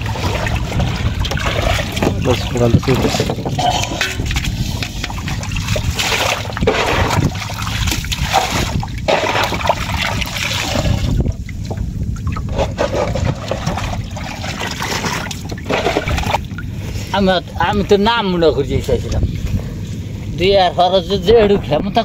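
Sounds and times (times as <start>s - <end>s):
river water splashing and trickling: 0.0s - 19.3s.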